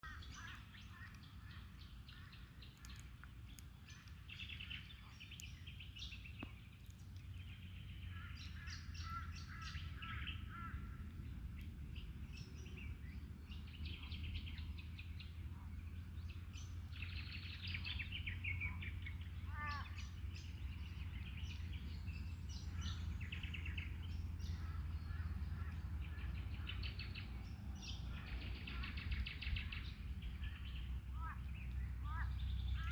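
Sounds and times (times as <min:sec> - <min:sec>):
birds chirping and calling: 0:00.0 - 0:32.9.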